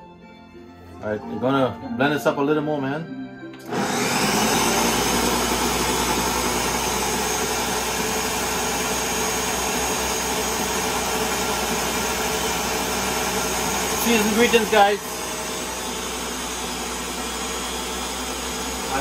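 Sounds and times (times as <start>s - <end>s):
blender running: 3.6s - 19.0s.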